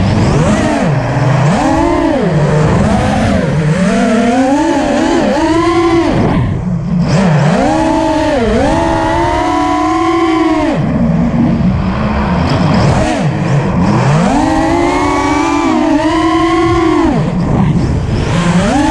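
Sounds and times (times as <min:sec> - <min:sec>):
quadcopter motors buzzing whine: 0:00.0 - 0:18.9.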